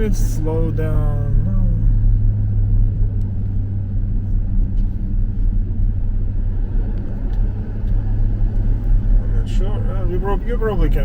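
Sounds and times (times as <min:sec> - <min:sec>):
car engine and tyre hum: 0:00.0 - 0:11.0.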